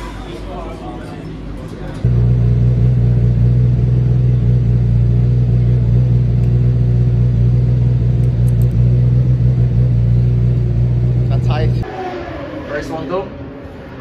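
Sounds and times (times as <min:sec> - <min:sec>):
motorcycle engine droning: 0:02.0 - 0:13.8.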